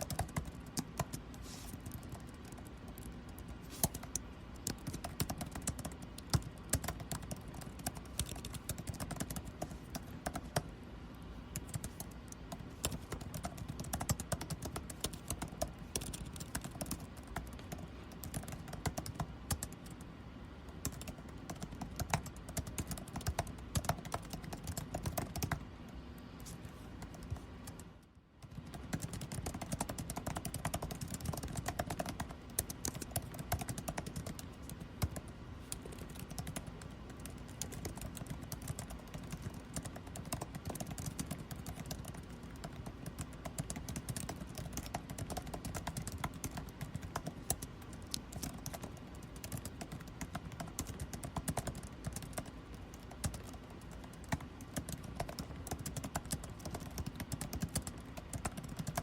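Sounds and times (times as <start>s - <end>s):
typing on computer keyboard: 0.0s - 10.7s, 11.5s - 20.1s, 20.7s - 59.0s
air conditioning hum: 0.0s - 59.0s.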